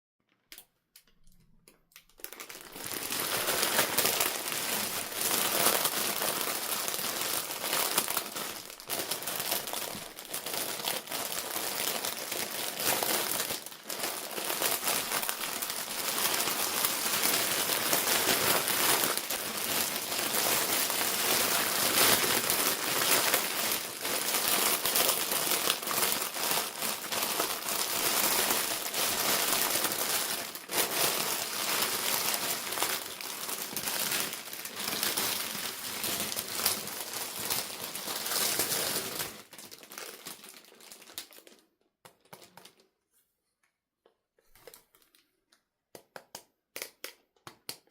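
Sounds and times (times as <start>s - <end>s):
toy packaging crinkling: 1.9s - 42.9s.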